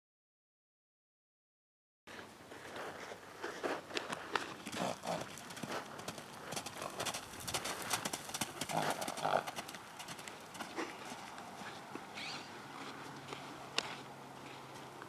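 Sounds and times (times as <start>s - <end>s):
hoofbeats on sand: 2.6s - 15.0s.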